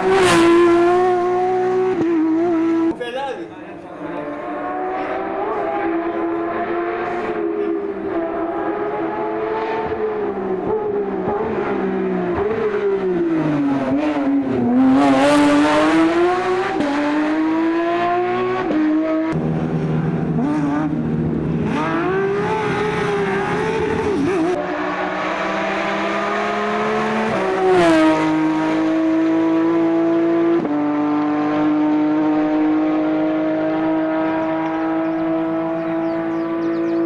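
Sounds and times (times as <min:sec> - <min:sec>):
sports car engine revving: 0:00.0 - 0:03.0, 0:03.9 - 0:37.0.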